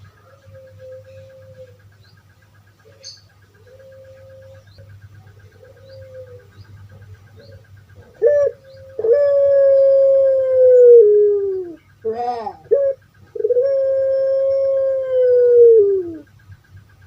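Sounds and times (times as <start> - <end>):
dove long drawn-out call: 0.0 - 2.0, 2.8 - 16.4
dove cooing: 0.0 - 16.5.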